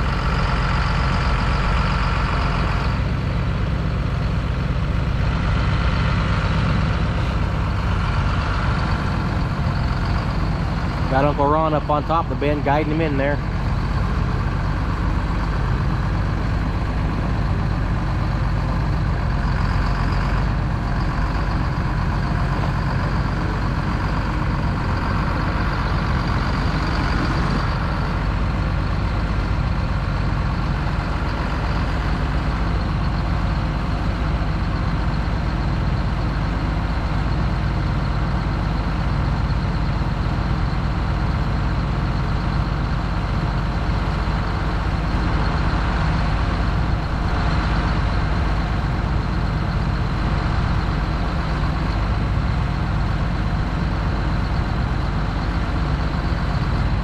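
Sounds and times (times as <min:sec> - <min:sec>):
vehicle engine running steadily: 0:00.0 - 0:57.0.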